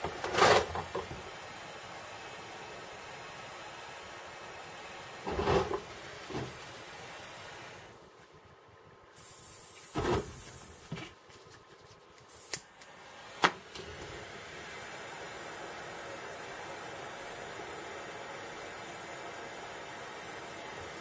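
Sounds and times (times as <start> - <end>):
butane torch hissing: 0.0 - 8.0, 9.1 - 10.9, 12.3 - 21.0.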